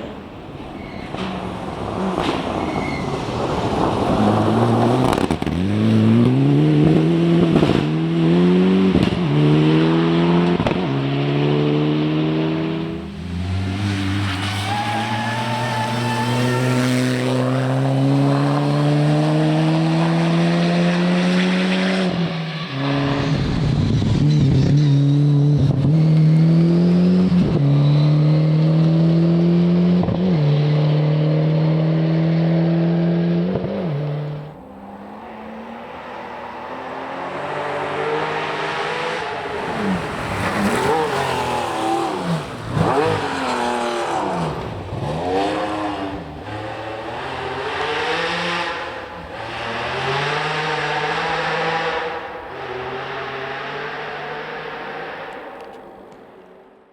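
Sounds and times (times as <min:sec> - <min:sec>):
rally car engine at full throttle: 0:00.0 - 0:56.6
rally car engine revving: 0:01.1 - 0:55.7.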